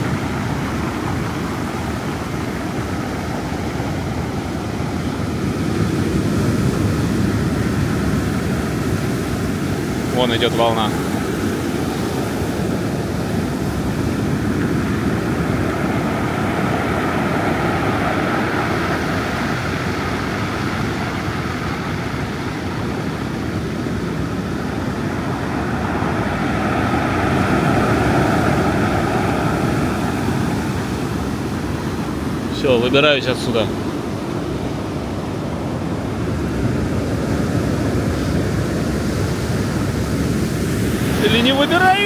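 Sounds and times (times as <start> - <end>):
waves breaking on pebble beach: 0.0 - 42.0.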